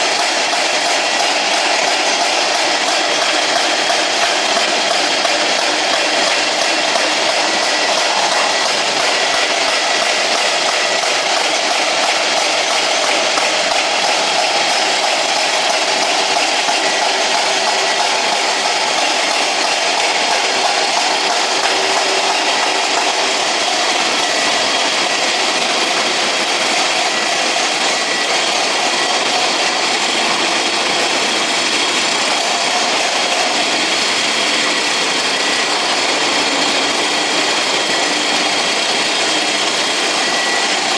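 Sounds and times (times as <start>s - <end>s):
excavator running: 0.0s - 40.9s.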